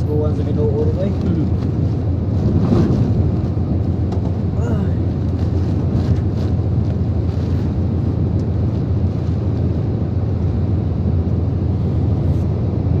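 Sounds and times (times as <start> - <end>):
strong wind and rain: 0.0 - 13.0.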